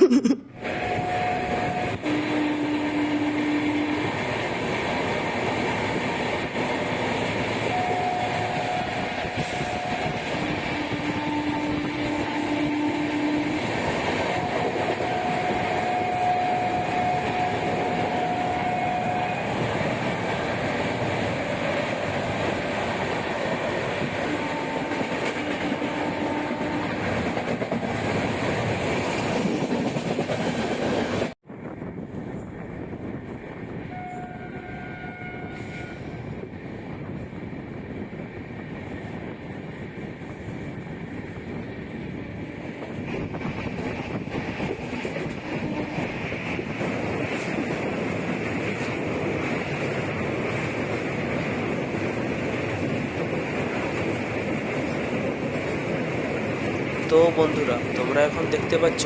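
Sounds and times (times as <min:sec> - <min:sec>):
train rumble inside coach: 0:00.0 - 0:59.0.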